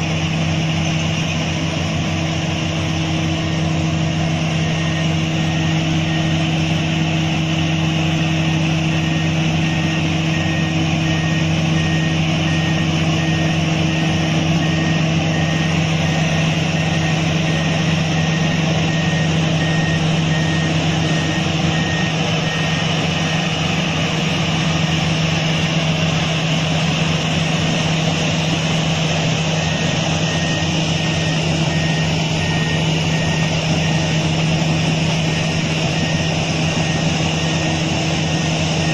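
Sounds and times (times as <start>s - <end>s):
diesel engine droning: 0.0s - 38.9s
back-up alarm beeping: 1.5s - 38.9s.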